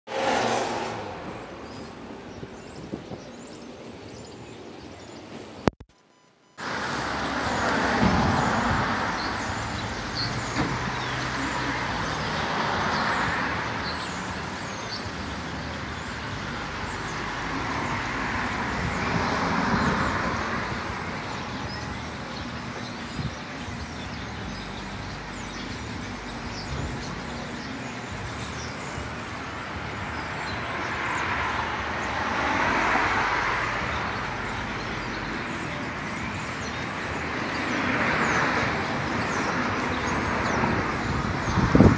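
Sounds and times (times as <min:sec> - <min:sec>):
cars passing: 0:00.1 - 0:05.7, 0:06.6 - 0:41.9.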